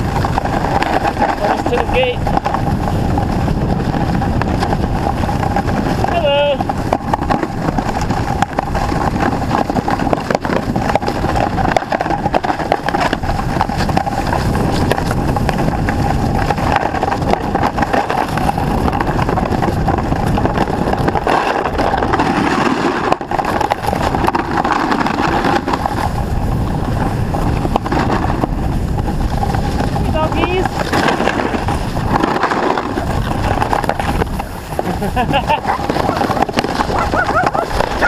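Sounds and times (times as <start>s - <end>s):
snowboard scraping over snow: 0.0s - 38.0s
wind buffeting microphone: 0.0s - 38.0s.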